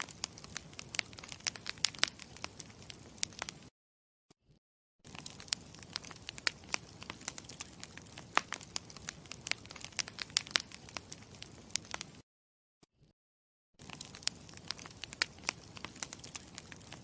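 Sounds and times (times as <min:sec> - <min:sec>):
campfire crackling: 0:00.0 - 0:03.7, 0:05.1 - 0:12.2, 0:13.8 - 0:17.0.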